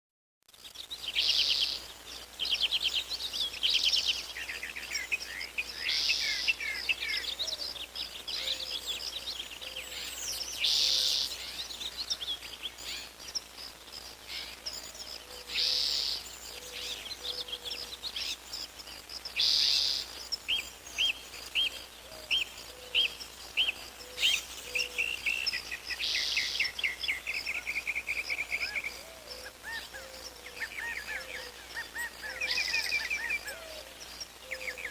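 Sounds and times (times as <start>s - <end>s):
buzzy birdsong phrase: 0.8s - 34.9s
bird trills and chirps: 0.9s - 13.6s, 14.2s - 34.9s.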